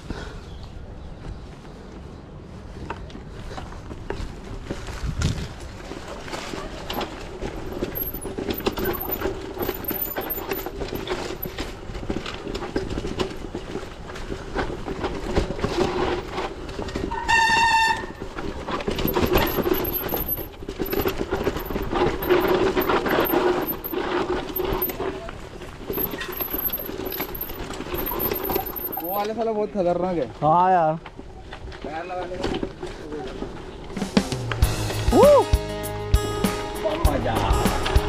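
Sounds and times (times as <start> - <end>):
bicycle rattling on rough ground: 1.0 - 34.0.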